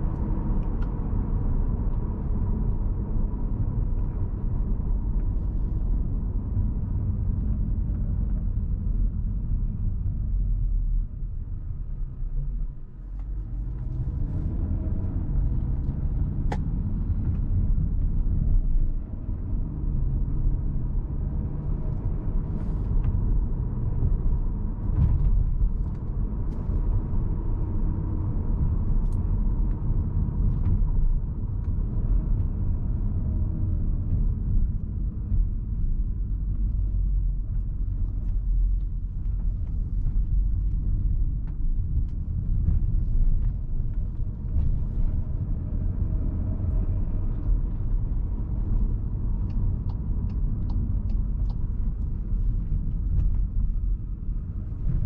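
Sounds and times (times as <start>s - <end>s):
car engine running: 0.0s - 55.0s
low road rumble: 0.0s - 55.0s.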